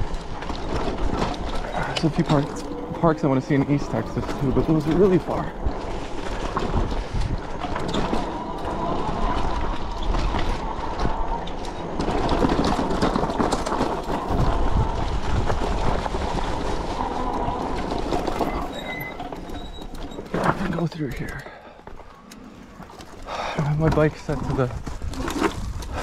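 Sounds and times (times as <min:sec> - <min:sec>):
bike tires rumbling over rocks: 0:00.0 - 0:26.0.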